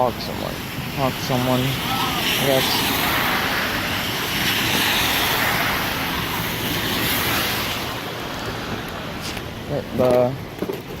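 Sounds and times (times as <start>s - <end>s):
steady rain falling: 0.0s - 10.5s.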